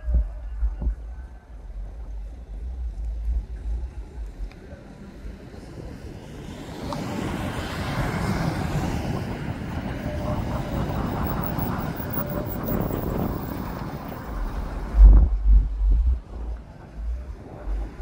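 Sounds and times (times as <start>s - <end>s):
wind buffeting microphone: 0.0s - 18.0s
road traffic passing: 1.5s - 18.0s.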